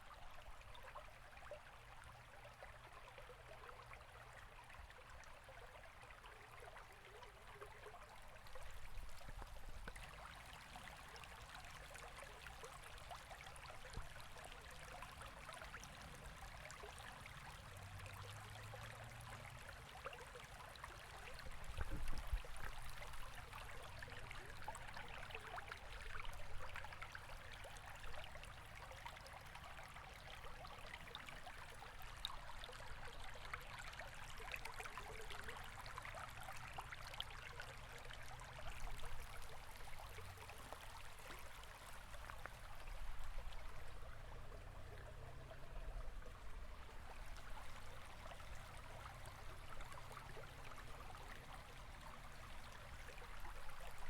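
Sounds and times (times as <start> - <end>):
river water rushing and trickling: 0.0 - 54.0.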